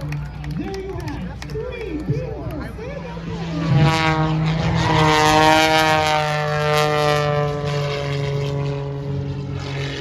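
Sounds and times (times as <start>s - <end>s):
propeller aircraft flying past: 0.0s - 10.0s.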